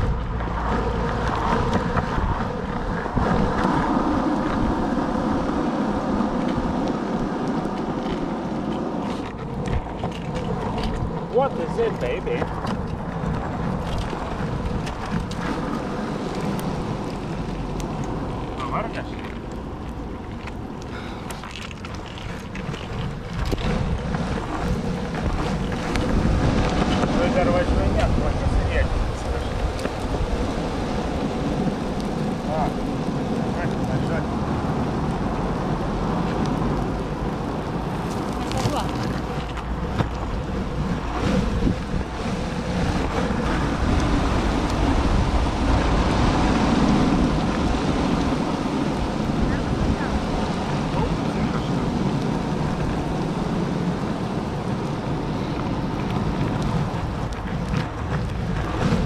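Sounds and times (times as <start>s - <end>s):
longboard wheels rolling on pavement: 0.0s - 59.0s
wind on microphone: 0.0s - 59.0s
wheel ticks over bumps: 6.4s - 59.0s.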